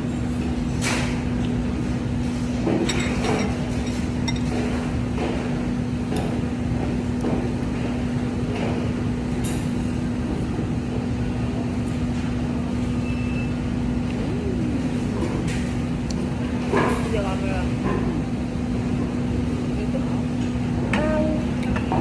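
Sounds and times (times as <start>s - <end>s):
mechanical hum and rumble: 0.0s - 22.0s.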